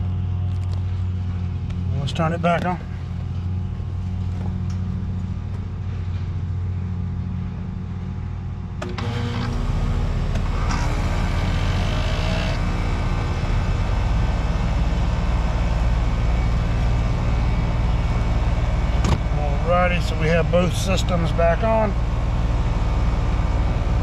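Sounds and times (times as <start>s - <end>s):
compressor and fan humming: 0.0s - 24.0s
low background hum: 0.0s - 24.0s.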